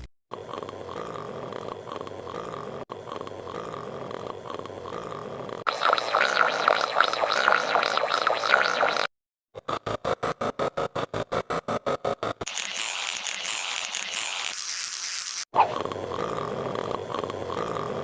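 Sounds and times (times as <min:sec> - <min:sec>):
cartoon snoring sound effect: 0:00.3 - 0:08.7, 0:09.6 - 0:14.3, 0:15.6 - 0:18.0.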